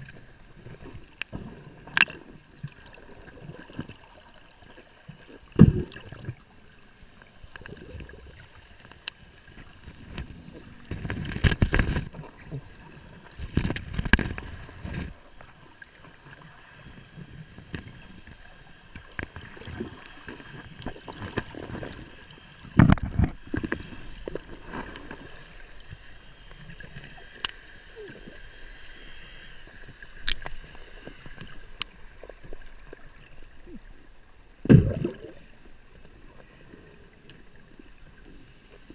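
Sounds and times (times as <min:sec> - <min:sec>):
shallow water sloshing and gurgling: 0:00.0 - 0:38.9
water splashes: 0:00.0 - 0:38.9.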